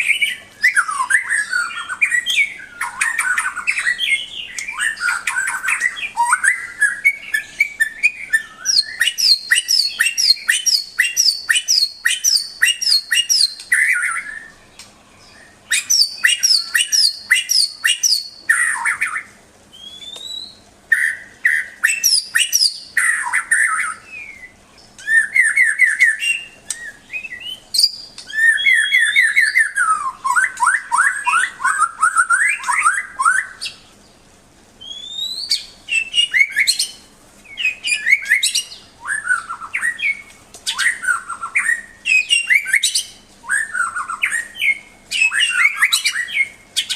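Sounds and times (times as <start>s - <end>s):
bird singing varied song: 0.0s - 46.9s.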